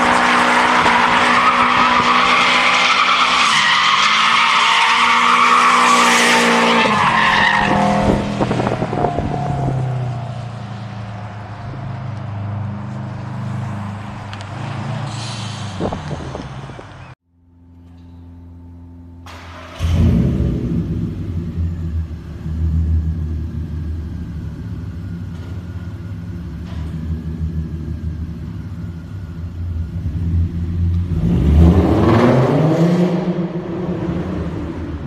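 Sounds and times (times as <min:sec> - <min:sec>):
car engine revving: 0:00.0 - 0:17.2, 0:19.0 - 0:35.0.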